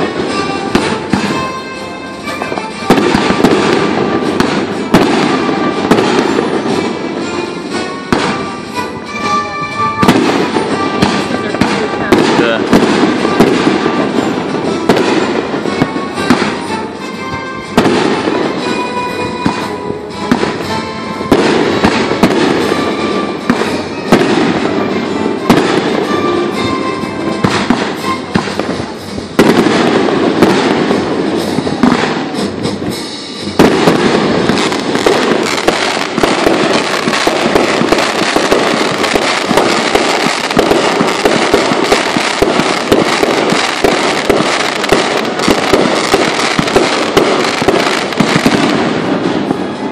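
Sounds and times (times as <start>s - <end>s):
fireworks bangs and crackles: 0.0s - 49.9s
music: 0.0s - 49.9s.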